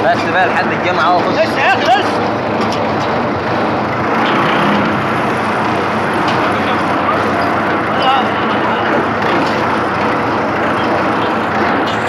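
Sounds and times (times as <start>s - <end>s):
road and rattle noise: 0.0s - 12.0s
small vehicle engine running: 0.0s - 12.0s.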